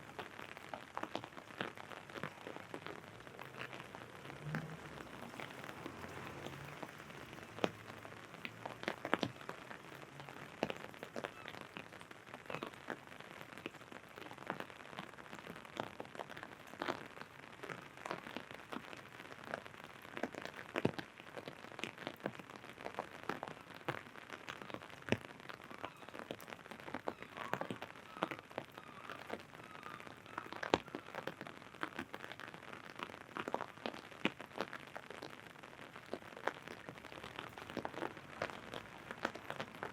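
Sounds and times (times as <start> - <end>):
raindrops tapping on umbrella: 0.0 - 39.9
steady hiss of rain: 0.0 - 39.9.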